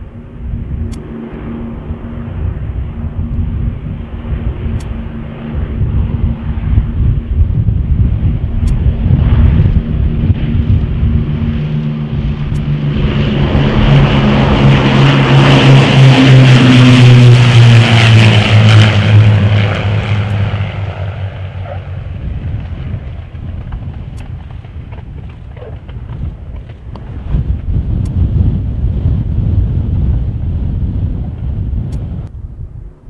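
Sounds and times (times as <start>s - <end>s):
aircraft engines droning: 0.0s - 33.0s.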